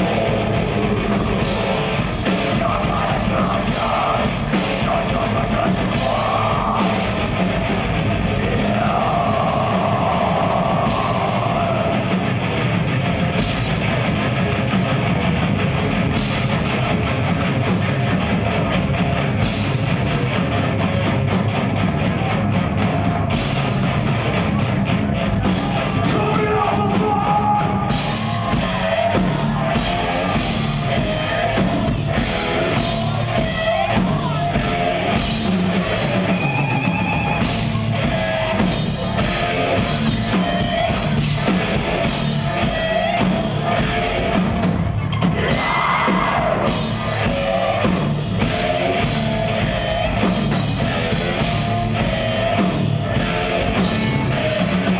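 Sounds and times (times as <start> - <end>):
distorted electric guitars: 0.0 - 54.9
drum kit playing: 0.0 - 54.9.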